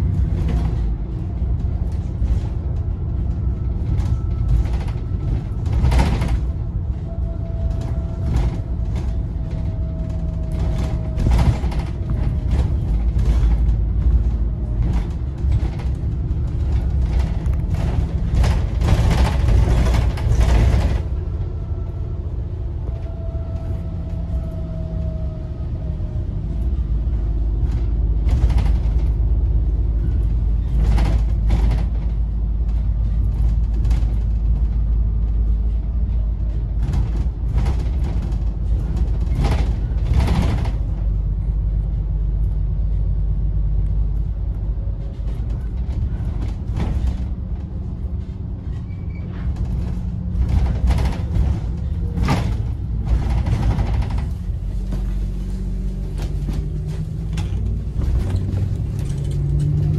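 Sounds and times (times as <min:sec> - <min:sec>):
bus body rattling and creaking: 0:00.0 - 0:59.9
bus engine low rumble: 0:00.0 - 0:59.9.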